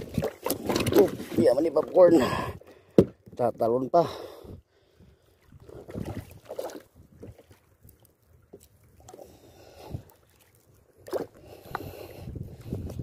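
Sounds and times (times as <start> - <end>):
waves lapping against boat: 0.0 - 13.0.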